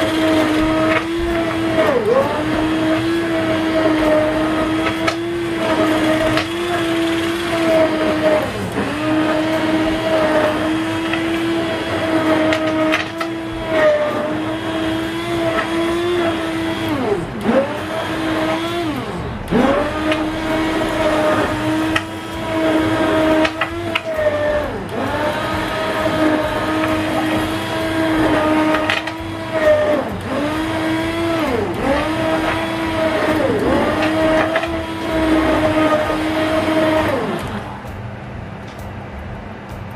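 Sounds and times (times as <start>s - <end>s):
stick blender motor hum: 0.0s - 38.0s.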